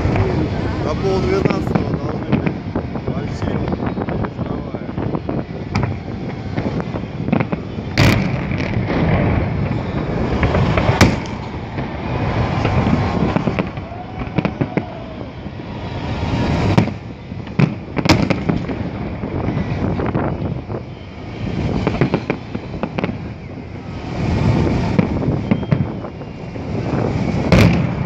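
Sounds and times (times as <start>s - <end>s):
fireworks popping and crackling: 0.0s - 28.0s
loud firework bangs: 0.0s - 28.0s.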